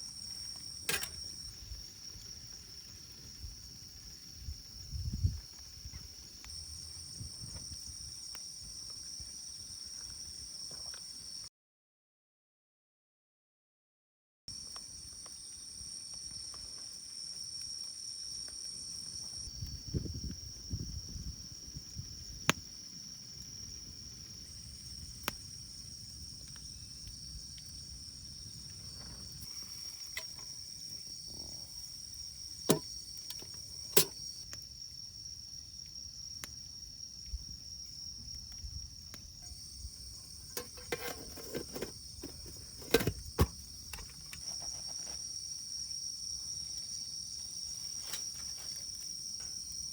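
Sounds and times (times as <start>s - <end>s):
insects droning: 0.0s - 11.5s, 14.5s - 49.9s.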